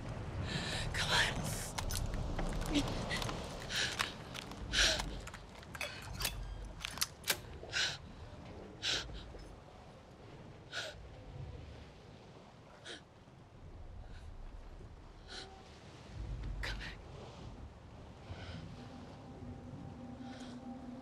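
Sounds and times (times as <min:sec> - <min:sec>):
low rumble of sea: 0:00.0 - 0:21.0.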